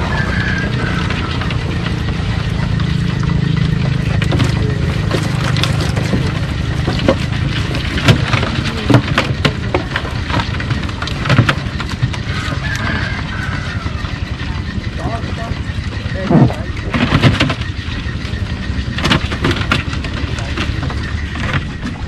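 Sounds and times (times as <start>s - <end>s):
sharp knocks and clatter: 0.0s - 22.0s.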